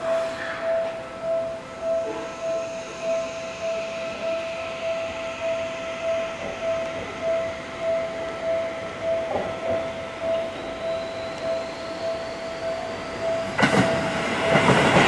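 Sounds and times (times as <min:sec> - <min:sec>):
electric train rumbling: 0:00.0 - 0:15.0
level crossing warning bell: 0:00.0 - 0:15.0.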